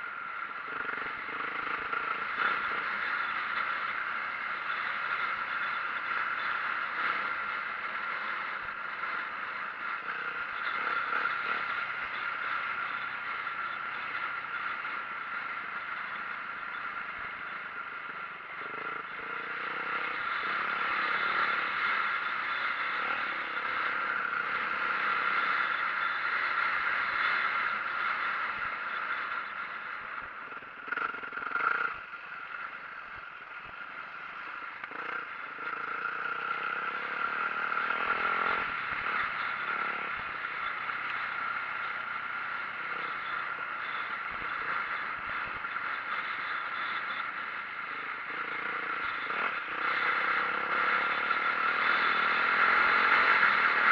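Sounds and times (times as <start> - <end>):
dirt bike engine running: 0.0 - 53.9.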